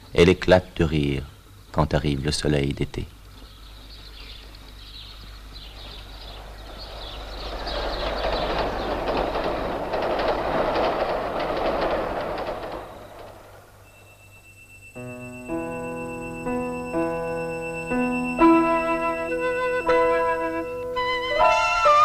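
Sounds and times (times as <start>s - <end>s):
wheels clacking over rail joints: 3.2s - 22.0s
train rumbling past: 3.6s - 22.0s.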